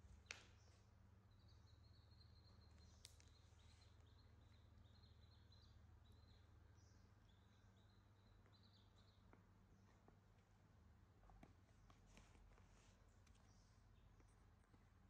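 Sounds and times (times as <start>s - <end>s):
faint steady low hum: 0.0s - 15.0s.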